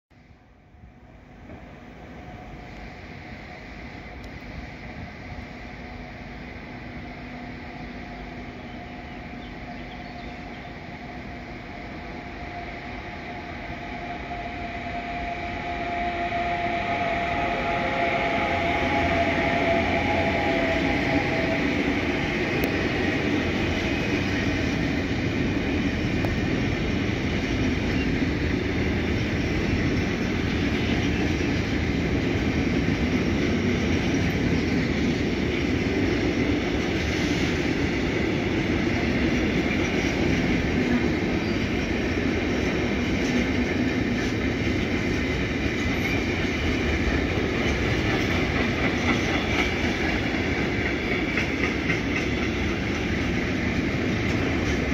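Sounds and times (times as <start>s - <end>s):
train wheels on rails: 0.1s - 54.9s
electric locomotive approaching: 0.2s - 54.9s.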